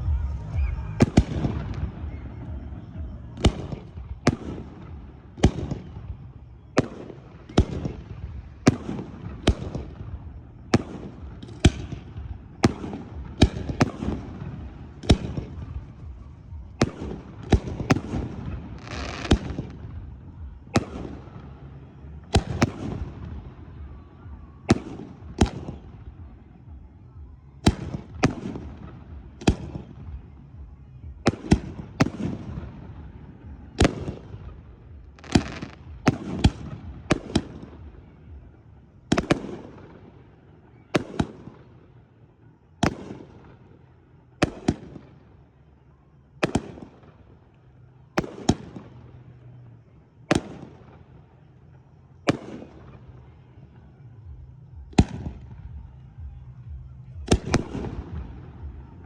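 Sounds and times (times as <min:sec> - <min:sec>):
fireworks bursting with echo: 0:00.0 - 0:59.0.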